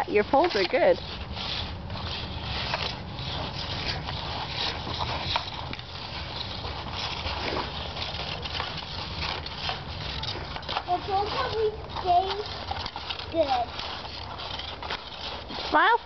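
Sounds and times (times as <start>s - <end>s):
skis scraping on icy snow: 0.0s - 16.0s.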